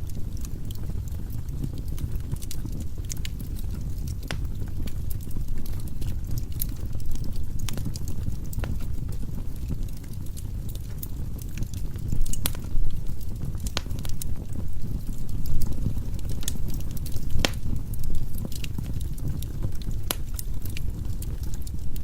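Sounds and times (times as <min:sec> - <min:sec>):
logs popping and crackling: 0:00.0 - 0:22.0
low rumble of flames: 0:00.0 - 0:22.0.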